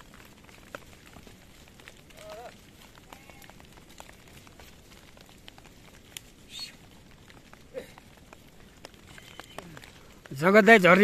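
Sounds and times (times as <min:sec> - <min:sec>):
hooves clicking on stones: 0:00.0 - 0:11.0.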